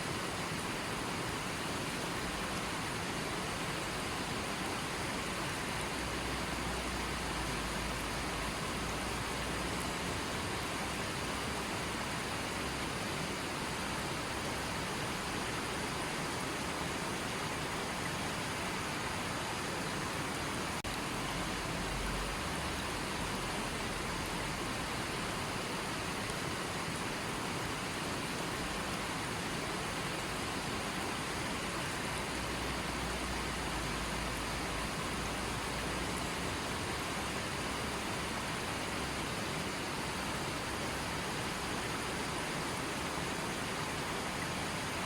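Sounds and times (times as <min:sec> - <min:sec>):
creek water flowing: 0:00.0 - 0:45.0.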